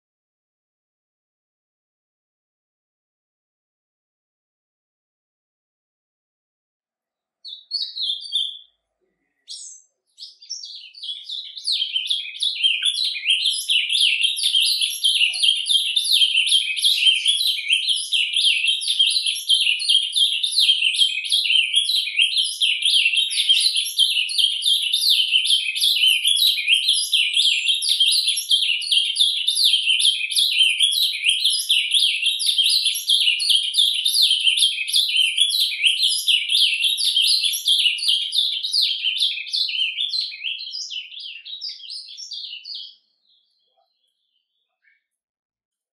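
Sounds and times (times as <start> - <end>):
bird warbling song: 7.4 - 45.1.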